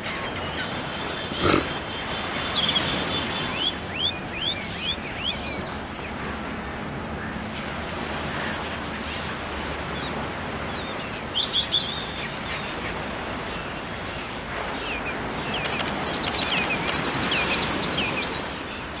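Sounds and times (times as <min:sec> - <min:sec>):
surf washing: 0:00.0 - 0:19.0
terns and gulls calling: 0:00.0 - 0:19.0.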